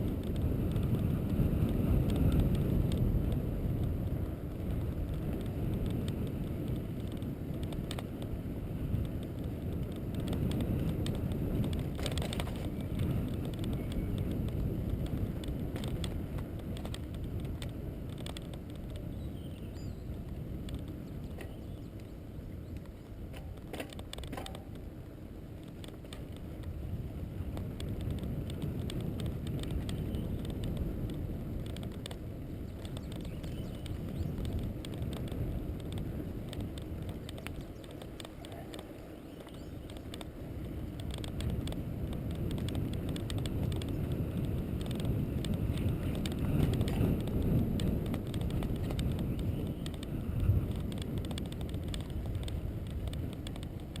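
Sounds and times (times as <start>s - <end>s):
light rattles and clicks: 0.0s - 54.0s
road noise: 0.0s - 54.0s
wind buffeting: 0.0s - 54.0s.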